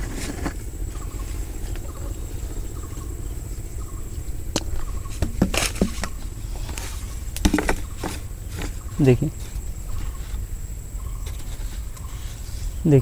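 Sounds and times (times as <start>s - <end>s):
steady low rumble: 0.0s - 11.3s
leaves rustling: 0.0s - 13.0s.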